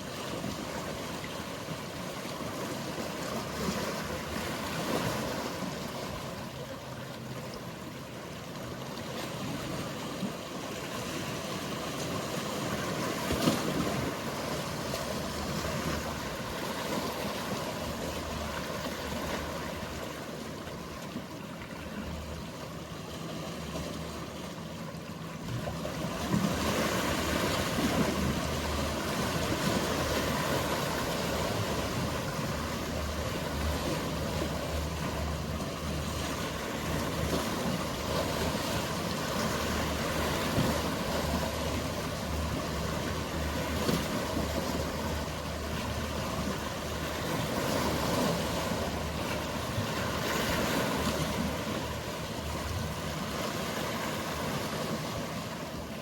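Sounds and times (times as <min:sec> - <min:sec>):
boat engines humming: 0:00.0 - 0:56.0
sea waves washing: 0:00.0 - 0:56.0.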